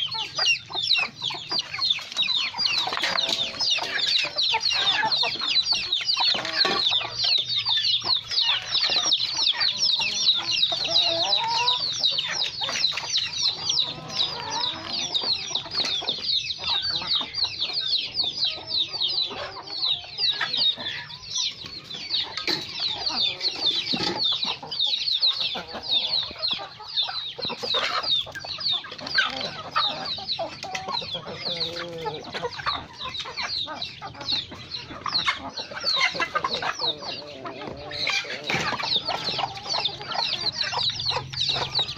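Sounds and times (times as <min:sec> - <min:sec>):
chicks peeping: 0:00.0 - 0:41.9
hens clucking: 0:00.0 - 0:41.9.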